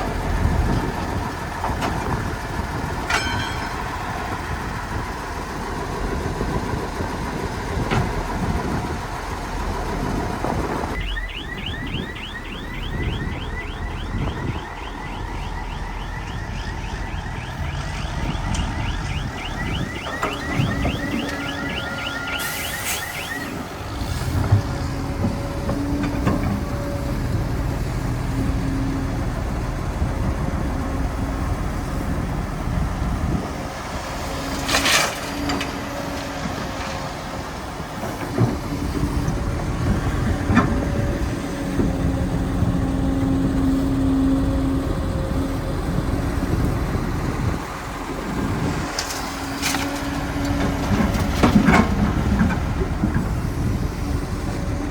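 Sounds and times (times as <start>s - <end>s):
heavy diesel machinery engines: 0.0s - 54.9s.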